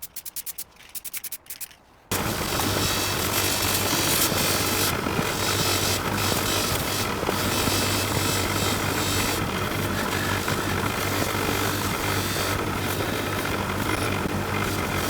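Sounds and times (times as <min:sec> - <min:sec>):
motor humming with hiss: 0:00.0 - 0:15.0.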